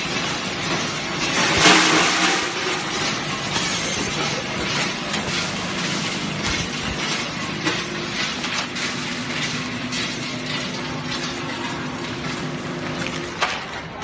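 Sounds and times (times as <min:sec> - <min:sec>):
ice packing machine running: 0:00.0 - 0:14.0.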